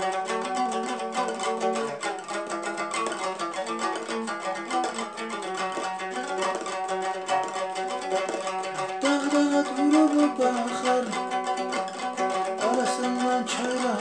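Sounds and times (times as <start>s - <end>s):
lute strummed: 0.0s - 14.0s.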